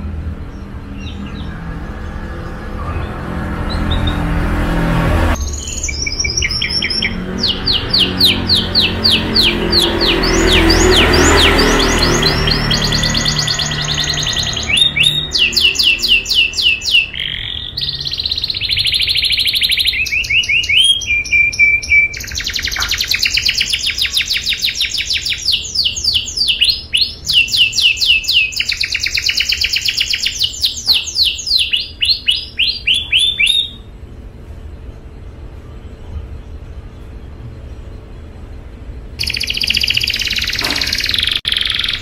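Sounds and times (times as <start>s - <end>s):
canary singing trills: 0.0s - 4.5s, 5.4s - 34.1s, 39.2s - 42.0s.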